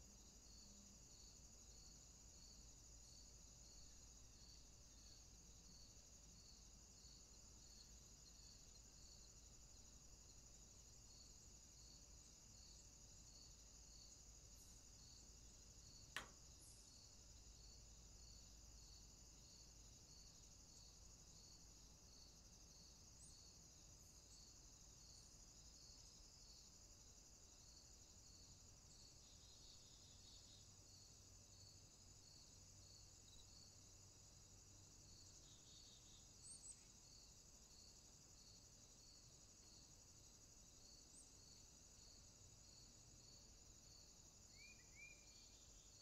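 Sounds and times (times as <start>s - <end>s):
insects chirping: 0.0s - 46.0s.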